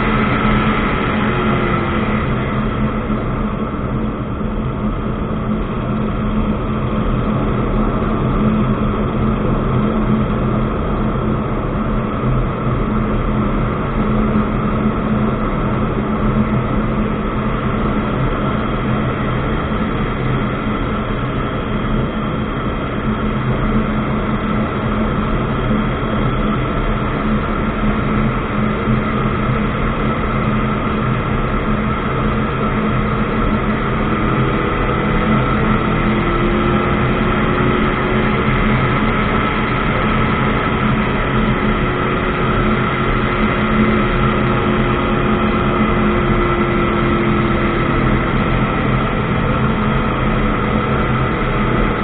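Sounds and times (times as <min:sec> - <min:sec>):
aircraft engine and propeller drone: 0:00.0 - 0:52.0.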